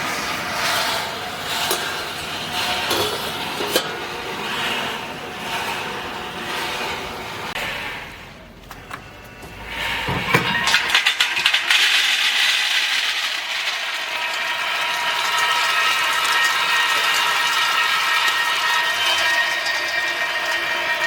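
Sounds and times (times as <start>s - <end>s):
machine rattling: 0.0s - 21.0s.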